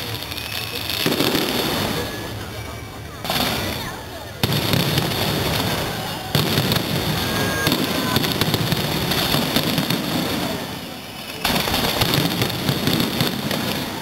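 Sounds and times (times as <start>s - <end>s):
loud firework bangs: 0.0s - 2.3s, 3.2s - 14.0s
fireworks crackling: 0.0s - 14.0s.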